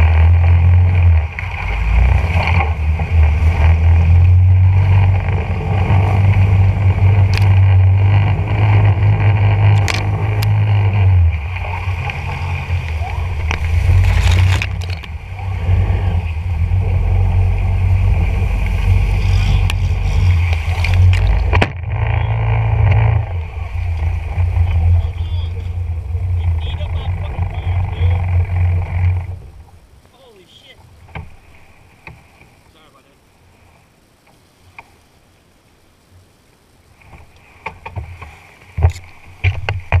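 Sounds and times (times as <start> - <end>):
boat motor running: 0.0 - 33.3, 37.0 - 40.0
grass rustling against hull: 0.0 - 40.0.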